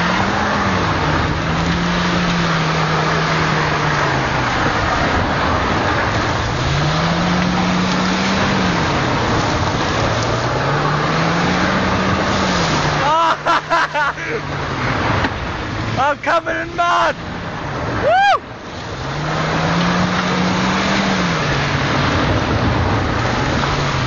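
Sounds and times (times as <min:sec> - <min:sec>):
tyres throwing mud and grit: 0:00.0 - 0:18.0, 0:18.6 - 0:24.0
car engine revving: 0:00.0 - 0:24.0.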